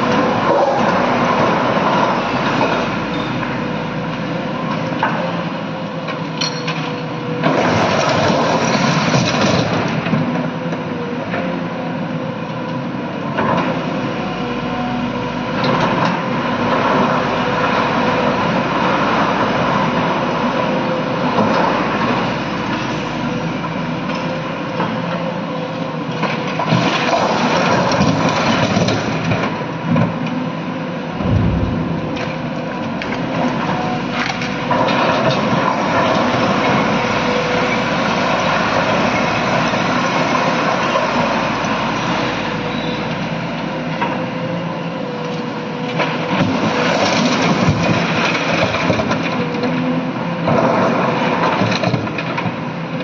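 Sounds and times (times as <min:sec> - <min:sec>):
excavator diesel engine: 0:00.0 - 0:50.5.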